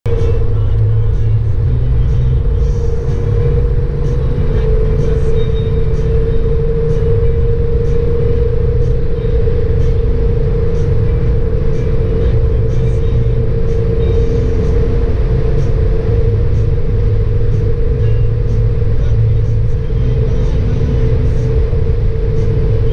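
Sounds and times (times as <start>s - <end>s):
road and wind rumble: 0.0s - 22.9s
steady hum: 0.1s - 22.9s.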